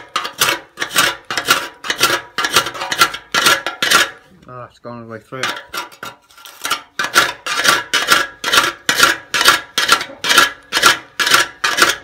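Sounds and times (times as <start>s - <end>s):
rasping metal on rusted metal: 0.0s - 4.3s, 5.4s - 12.0s.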